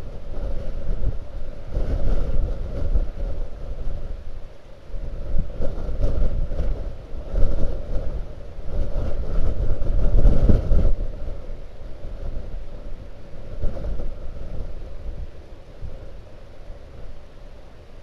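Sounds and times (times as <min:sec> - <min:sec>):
wind gusting against microphone: 0:00.0 - 0:18.0.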